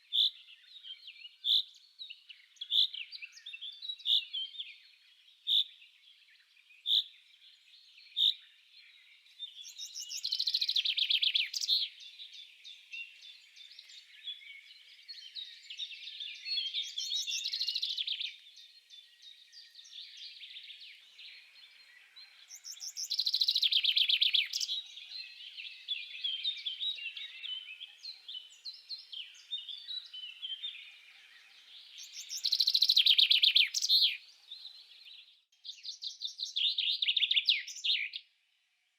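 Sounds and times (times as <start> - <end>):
loud trilling birdsong: 0.0 - 38.3
songbirds chirping: 0.0 - 38.9.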